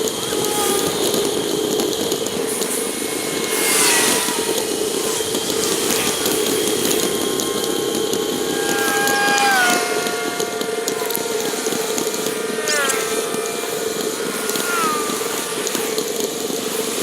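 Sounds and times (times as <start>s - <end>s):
vehicle passing: 0.0s - 17.0s
wind and road noise: 0.0s - 17.0s.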